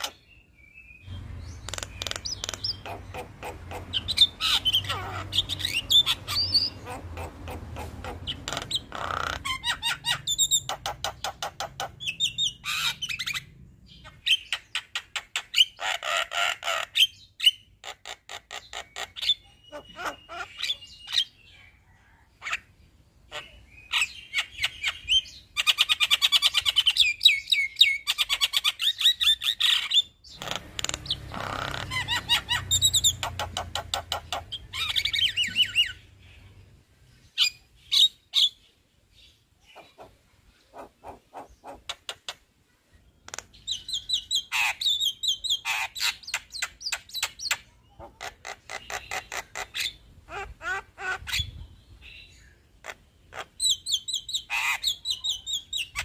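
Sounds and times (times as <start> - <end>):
myna bird singing: 0.0 - 56.0.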